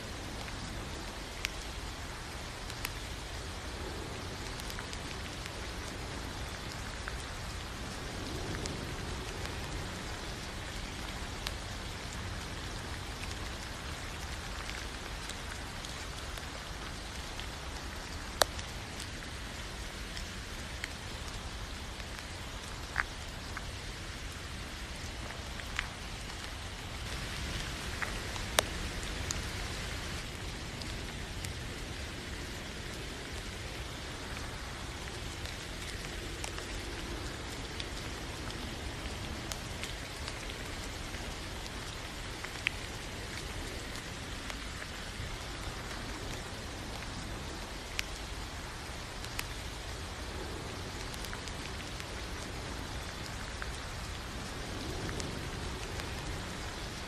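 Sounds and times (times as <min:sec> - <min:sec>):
sharp raindrops landing close: 0:00.0 - 0:57.0
steady rain falling: 0:00.0 - 0:57.0.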